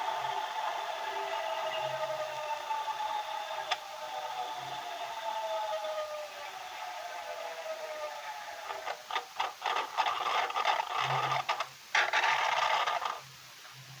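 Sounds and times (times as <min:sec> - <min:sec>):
falling whine: 0:00.0 - 0:13.2.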